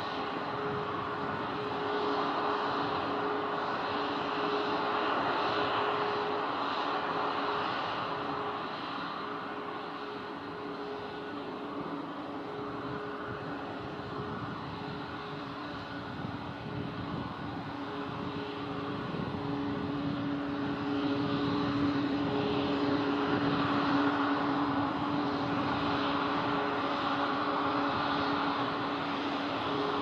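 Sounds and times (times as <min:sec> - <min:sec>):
jet engines droning: 0:00.0 - 0:30.0
steady humming tones: 0:00.0 - 0:30.0.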